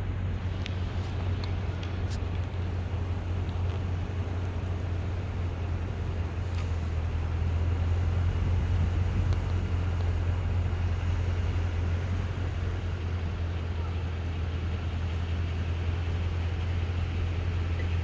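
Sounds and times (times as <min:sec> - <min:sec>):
car engine drone: 0:00.0 - 0:18.0
road noise inside car: 0:00.0 - 0:18.0.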